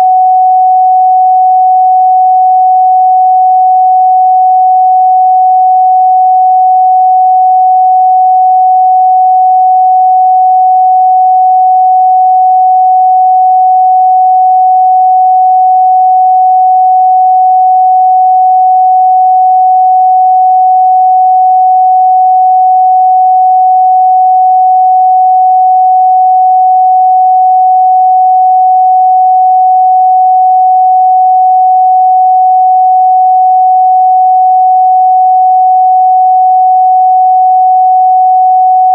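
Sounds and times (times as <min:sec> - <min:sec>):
sine-wave test tone: 0:00.0 - 0:38.9.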